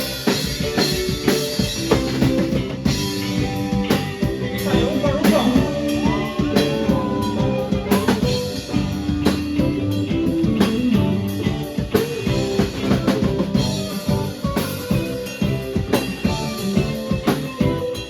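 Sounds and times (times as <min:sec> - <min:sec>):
drum kit hits: 0:00.0 - 0:17.9
bass guitar notes: 0:00.0 - 0:18.0
electric guitar sustained notes: 0:00.0 - 0:18.0.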